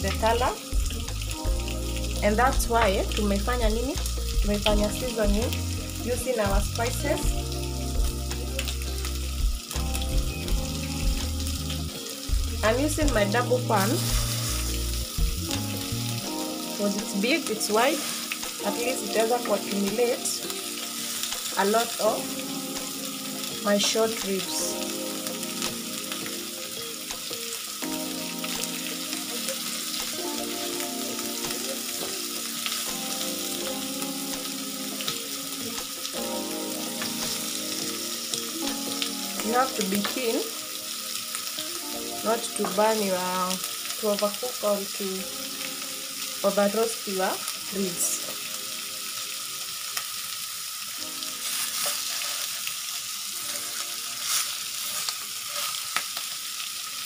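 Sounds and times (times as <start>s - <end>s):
meat sizzling in grill pan: 0.0s - 57.0s
soft background music: 0.0s - 57.0s.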